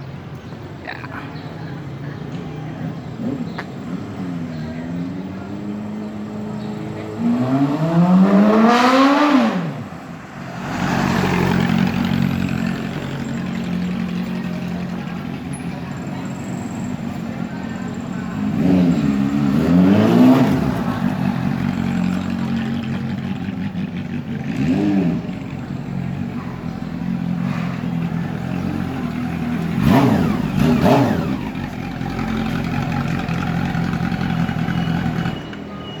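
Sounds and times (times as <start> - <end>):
motorcycle engine idling with revs: 0.0 - 8.2, 11.1 - 36.0.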